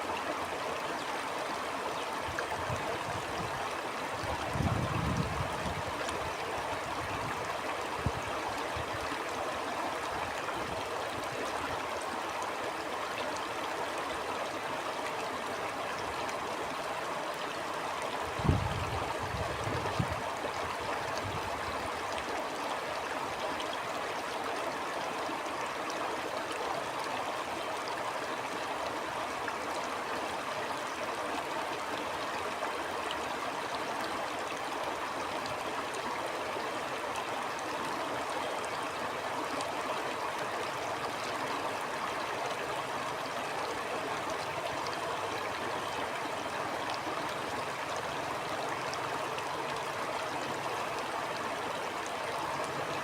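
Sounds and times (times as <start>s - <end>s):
stream water flowing over rocks: 0.0s - 53.0s.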